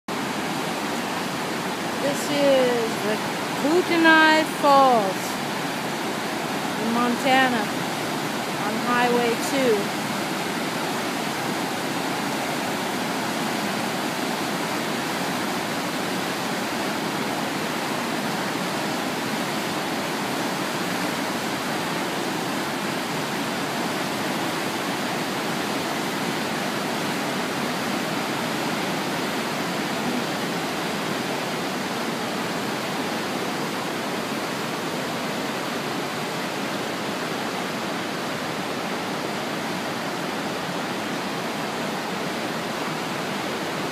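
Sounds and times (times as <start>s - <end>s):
whitewater rushing through rapids: 0.1s - 43.9s.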